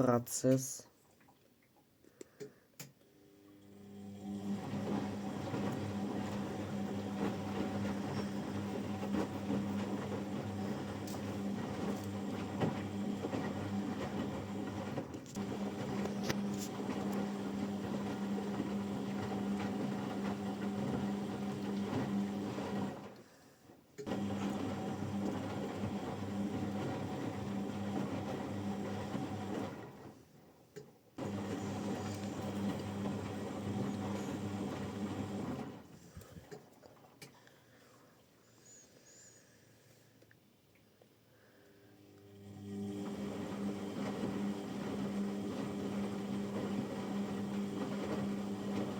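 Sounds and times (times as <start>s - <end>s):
washing machine motor hum: 3.2s - 23.4s, 24.0s - 30.5s, 31.2s - 37.2s, 42.0s - 48.9s.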